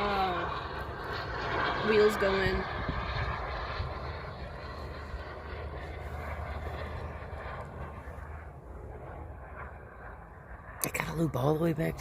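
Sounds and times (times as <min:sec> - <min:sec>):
airplane engine droning: 0:00.0 - 0:12.0.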